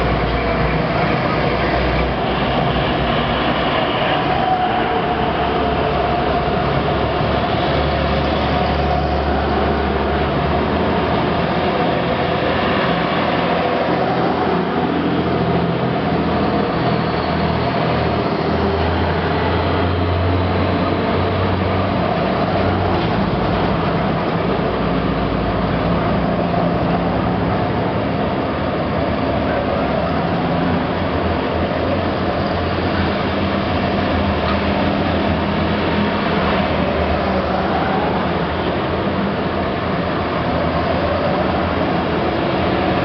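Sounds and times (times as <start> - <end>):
trucks driving past: 0.0 - 43.0.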